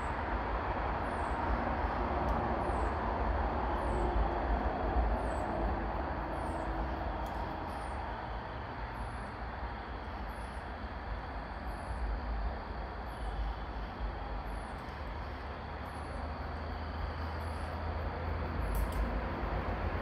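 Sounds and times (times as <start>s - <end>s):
outdoor rushing noise: 0.0s - 20.0s.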